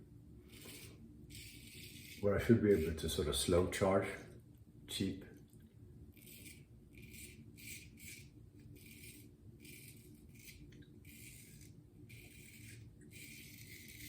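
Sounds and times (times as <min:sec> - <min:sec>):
razor scraping stubble: 0:00.0 - 0:04.3, 0:06.1 - 0:14.0.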